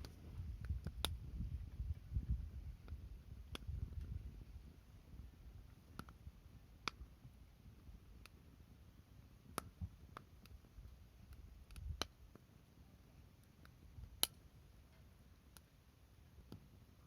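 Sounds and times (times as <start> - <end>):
faint low rumble: 0.0 - 17.0
wood fire crackling: 0.0 - 17.0.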